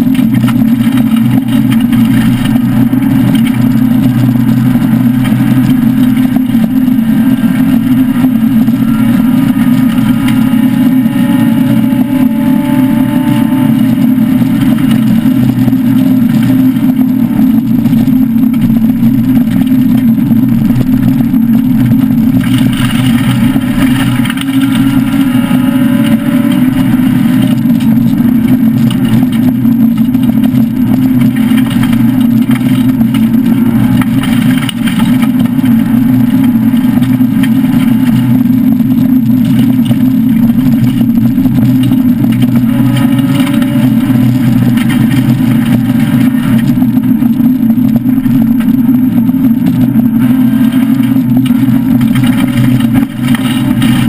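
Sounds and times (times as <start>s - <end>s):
car engine droning at speed: 0.0s - 54.0s.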